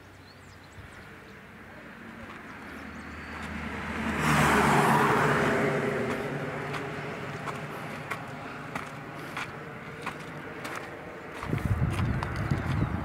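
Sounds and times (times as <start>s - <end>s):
vehicle passing by: 0.8s - 13.0s
footsteps on gravel: 2.2s - 13.0s.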